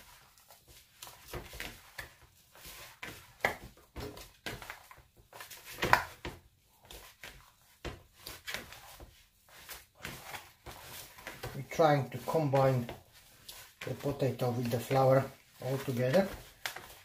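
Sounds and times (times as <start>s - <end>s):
dough squelches and slaps: 0.0s - 17.0s
hands kneading wet dough: 0.0s - 17.0s.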